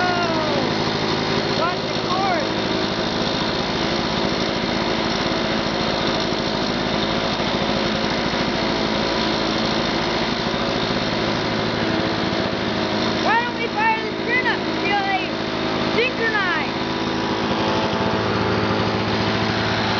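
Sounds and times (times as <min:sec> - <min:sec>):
two-stroke lawn mower engine: 0:00.0 - 0:19.9.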